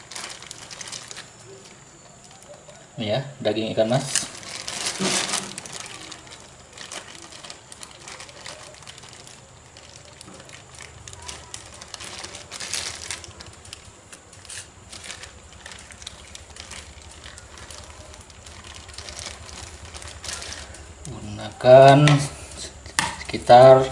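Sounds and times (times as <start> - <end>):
plastic bag crinkling: 0.0 - 2.9, 3.5 - 23.9
low steady hum: 0.0 - 23.9.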